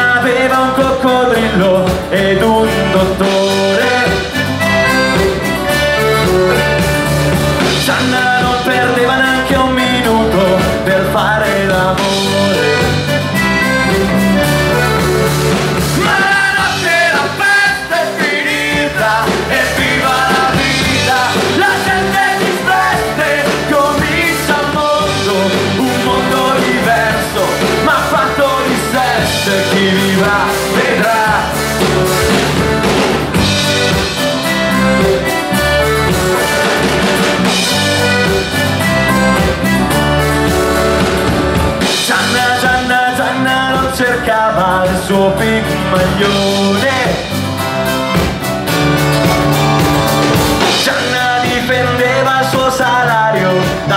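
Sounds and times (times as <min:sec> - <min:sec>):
accordion: 0:00.0 - 0:53.9
drum kit rock beat: 0:00.0 - 0:53.9
live rock band playing: 0:00.0 - 0:53.9
strummed acoustic guitars: 0:00.0 - 0:53.9.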